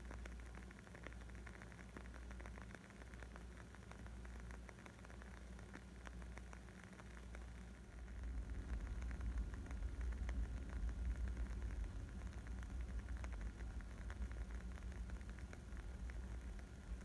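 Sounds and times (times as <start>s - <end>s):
wood fire crackling: 0.3s - 17.0s.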